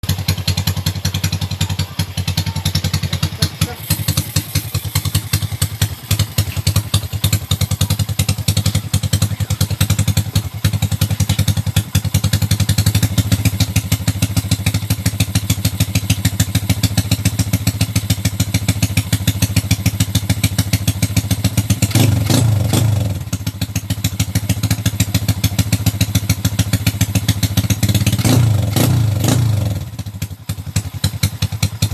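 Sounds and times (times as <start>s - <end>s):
motorcycle engine idling: 0.0s - 31.9s
motorcycle engine revving: 0.0s - 31.9s.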